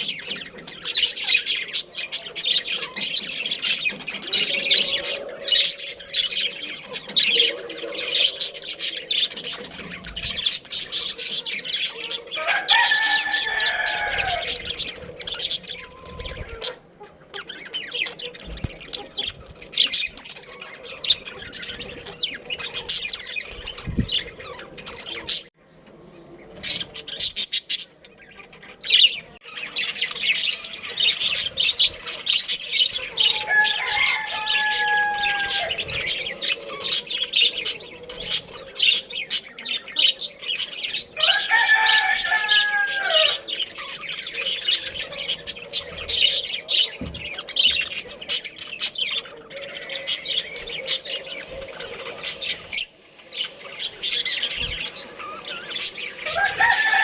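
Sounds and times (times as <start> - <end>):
budgerigars chirping and chattering: 0.0 - 57.0.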